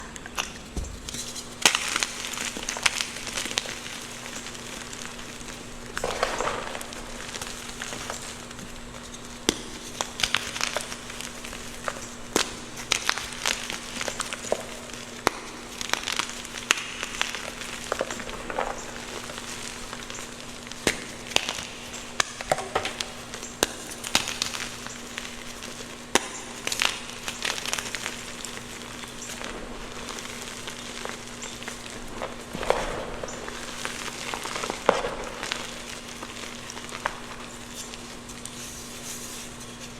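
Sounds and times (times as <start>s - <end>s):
faint steady hum: 0.0s - 39.9s
chalk crunching and snapping: 0.4s - 39.9s.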